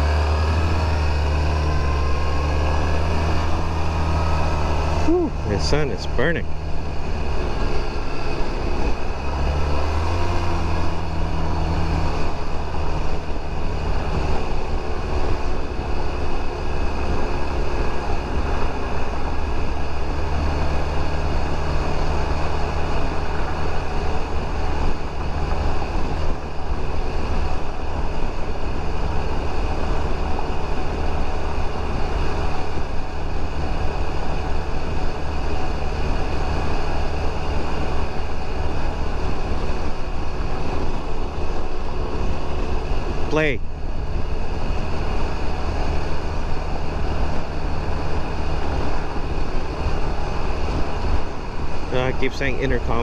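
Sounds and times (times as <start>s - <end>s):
scooter engine drone: 0.0s - 53.0s
wind and road rush: 0.0s - 53.0s.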